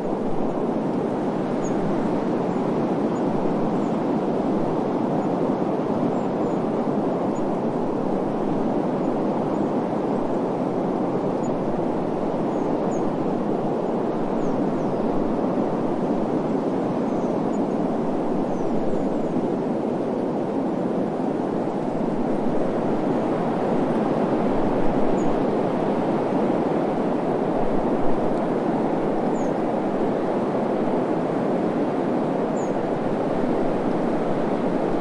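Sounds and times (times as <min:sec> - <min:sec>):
rushing wind: 0:00.0 - 0:35.0.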